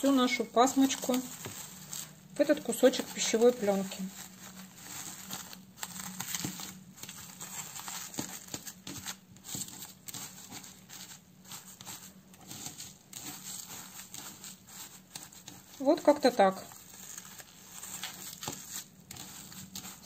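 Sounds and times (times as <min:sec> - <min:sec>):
cling film crinkling: 0:00.2 - 0:20.0.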